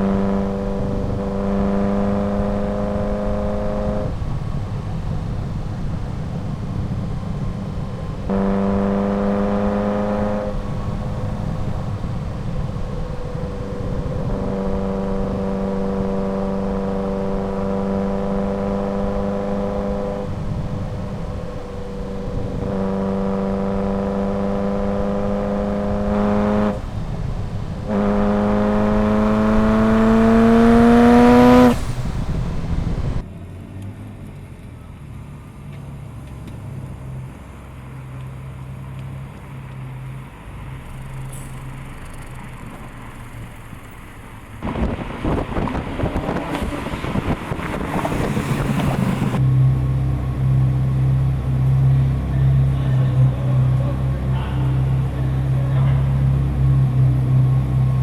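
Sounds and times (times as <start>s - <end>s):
sports car engine revving: 0.0s - 33.2s, 36.4s - 58.0s
high turbo whine: 0.0s - 34.2s, 35.7s - 58.0s
road and wind rumble: 0.0s - 58.0s.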